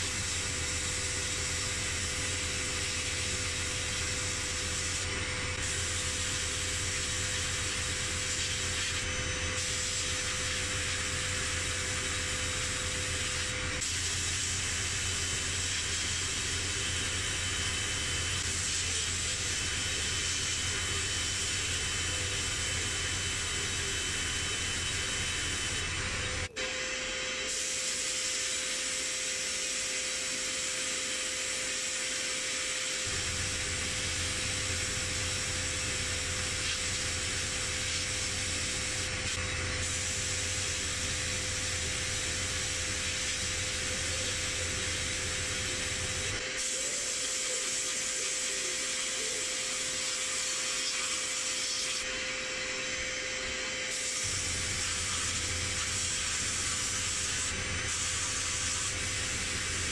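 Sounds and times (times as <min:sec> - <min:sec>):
sandblast gun hissing: 0:00.0 - 0:26.5, 0:27.4 - 0:52.1, 0:53.9 - 0:59.9.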